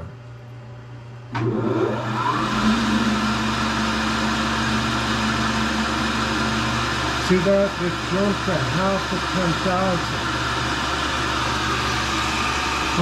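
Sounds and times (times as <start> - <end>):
work head motor humming: 1.3 - 13.0
grinder spindle motor humming: 1.6 - 13.0.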